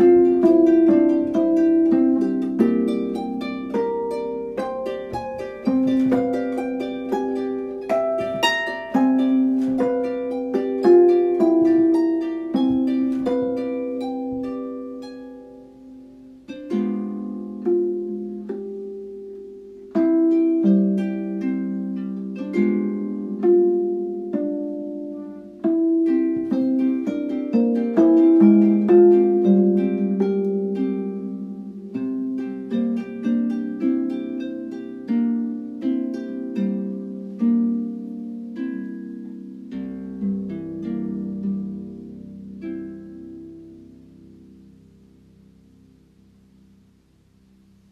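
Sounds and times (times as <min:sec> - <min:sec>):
harp playing slow piece: 0:00.0 - 0:47.9.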